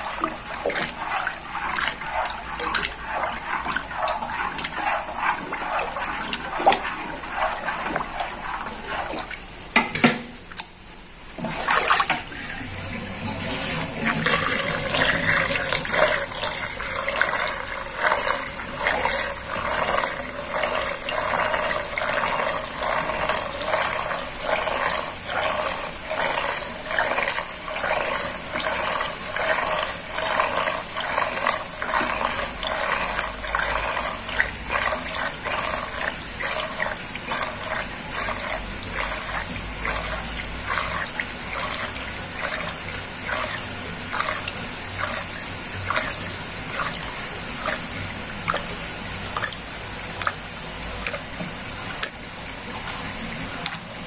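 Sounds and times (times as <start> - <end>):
water gurgling down a drain: 0.0 - 9.7, 11.3 - 54.0.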